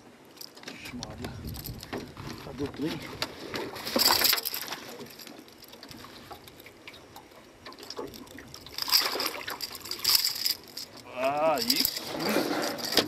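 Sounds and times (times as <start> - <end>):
water sloshing: 1.5 - 13.0.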